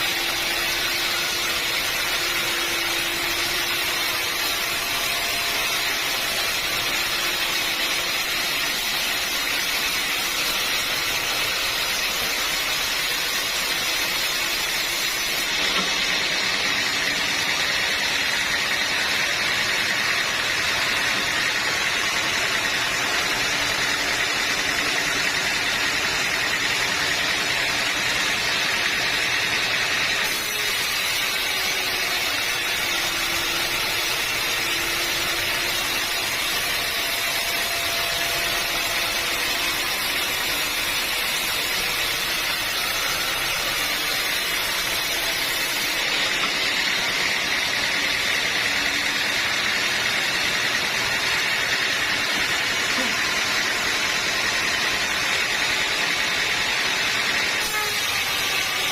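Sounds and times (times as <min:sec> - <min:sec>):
band sawmill cutting log: 0:00.0 - 0:58.9.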